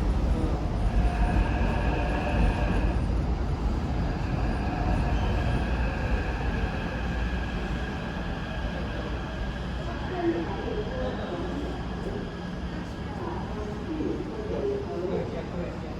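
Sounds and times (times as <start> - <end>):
train rumbling: 0.0 - 14.1.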